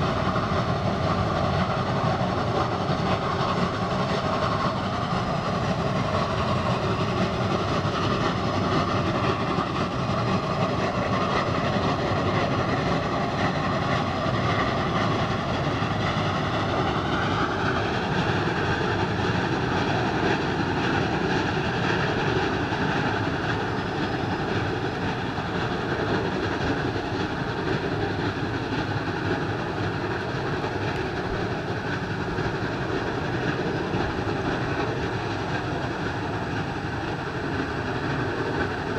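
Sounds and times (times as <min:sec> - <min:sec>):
steam locomotive exhaust chuffing: 0:00.0 - 0:38.9.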